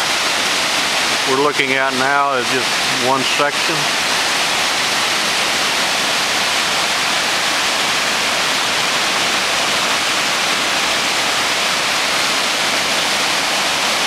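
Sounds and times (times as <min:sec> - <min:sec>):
rush of falling water: 0:00.0 - 0:14.0.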